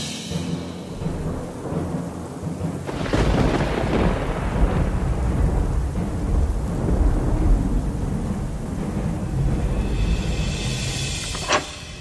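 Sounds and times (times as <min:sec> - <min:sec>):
low music drone: 0:00.0 - 0:12.0
rolling thunder rumble: 0:00.6 - 0:11.3.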